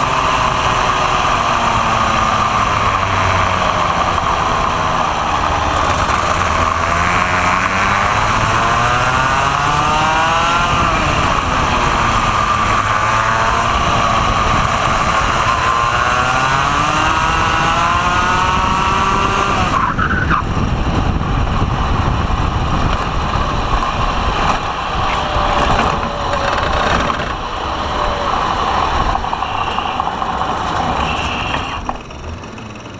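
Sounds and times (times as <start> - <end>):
two-stroke kart engine revving: 0.0 - 32.9
wind: 0.0 - 32.9.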